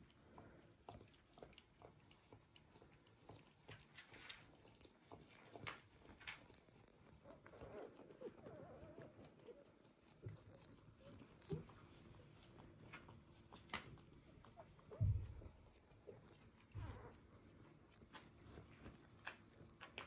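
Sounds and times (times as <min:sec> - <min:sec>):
puppies suckling: 0:00.0 - 0:20.0.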